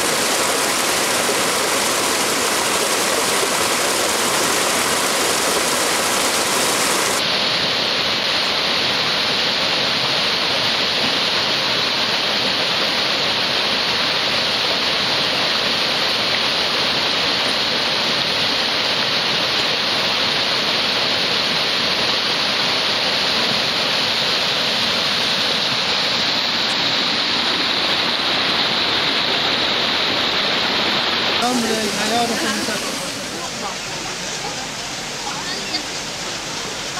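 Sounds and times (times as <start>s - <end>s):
fast water pouring and splashing: 0.0s - 7.3s, 8.9s - 36.9s.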